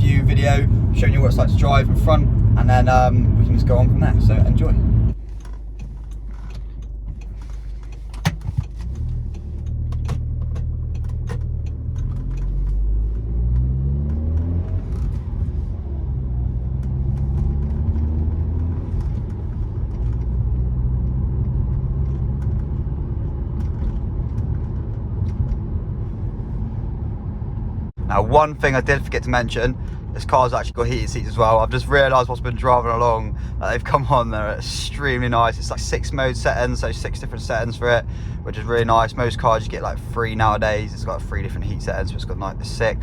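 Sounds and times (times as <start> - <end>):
car engine accelerating from inside cabin: 0.0 - 5.2, 8.2 - 43.0.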